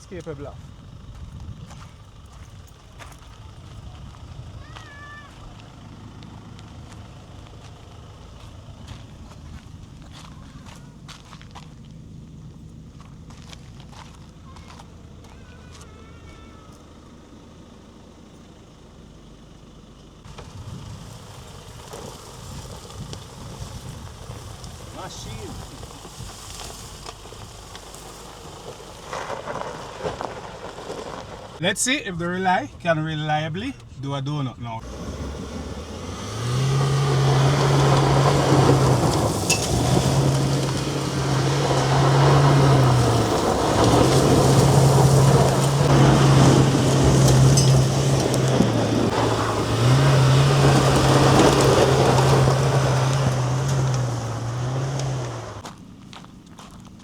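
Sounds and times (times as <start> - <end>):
pickup truck engine rumbling: 0.0 - 57.0
tyres spinning on loose dirt: 0.0 - 57.0.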